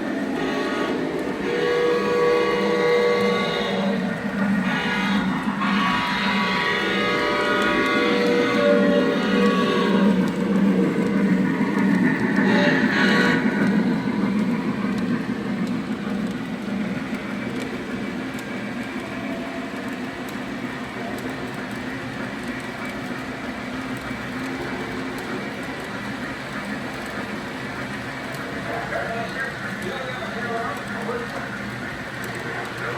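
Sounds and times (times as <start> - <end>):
model train rolling rumble: 0.0 - 32.9.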